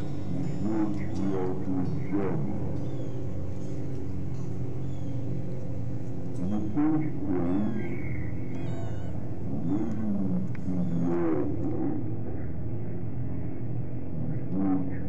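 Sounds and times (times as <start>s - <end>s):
guitar noise drone: 0.0s - 15.0s
wavering gliding wails: 0.0s - 15.0s.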